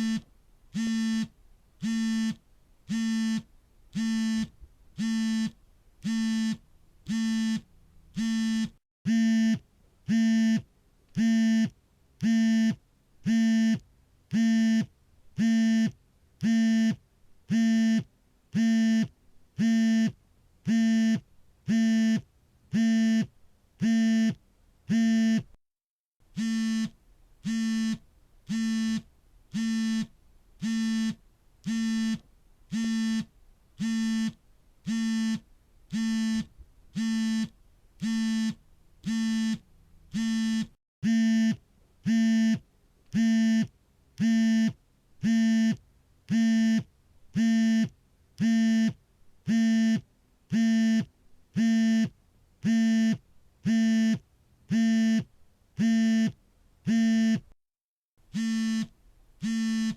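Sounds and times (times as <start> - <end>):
smartphone vibrating buzz: 0.0 - 25.5, 26.3 - 42.6, 43.2 - 57.5, 58.3 - 59.9.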